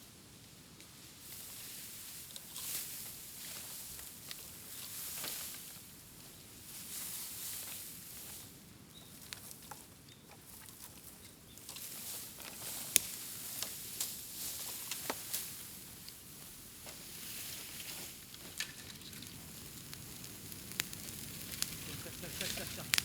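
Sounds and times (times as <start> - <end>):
bamboo bonfire crackling and popping: 0.3 - 23.0.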